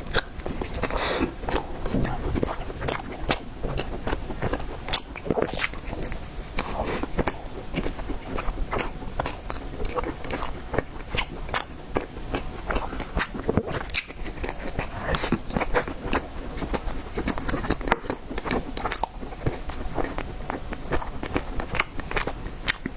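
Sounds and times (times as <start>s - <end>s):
person chewing: 0.0s - 22.9s.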